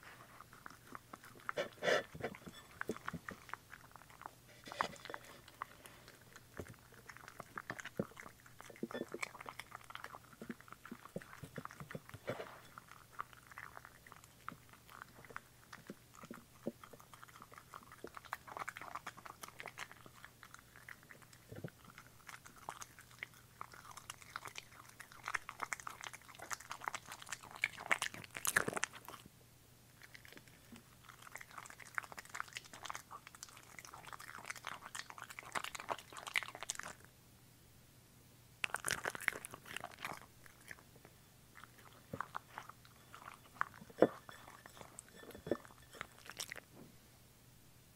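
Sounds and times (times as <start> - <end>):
dog licking a bowl: 0.0 - 29.0, 30.1 - 37.0, 41.6 - 46.7
dog chewing and licking: 0.0 - 29.3, 29.9 - 37.1, 38.6 - 46.7.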